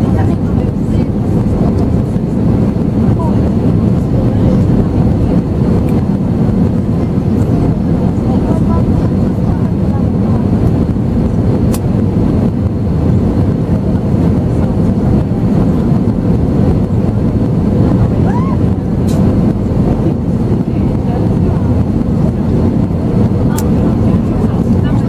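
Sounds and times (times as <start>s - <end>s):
airplane cabin roar: 0.0s - 25.0s.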